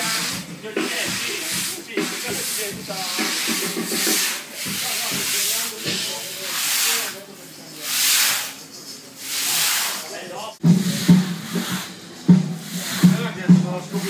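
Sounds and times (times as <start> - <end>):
brooms sweeping wet paving: 0.0 - 14.0
faint voices: 0.0 - 14.0.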